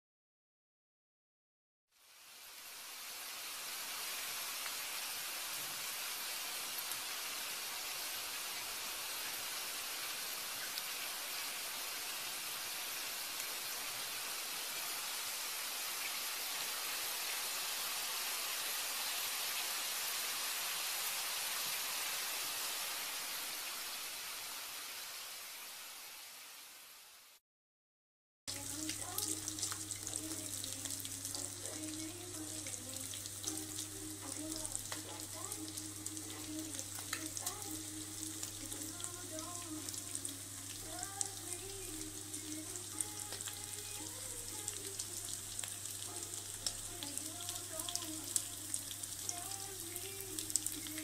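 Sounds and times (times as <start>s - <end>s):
oil sizzling in a pan: 1.9s - 27.4s, 28.5s - 51.0s.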